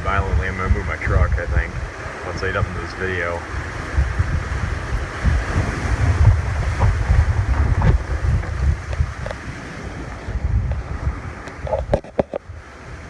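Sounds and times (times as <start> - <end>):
storm wind buffeting microphone: 0.0 - 13.0.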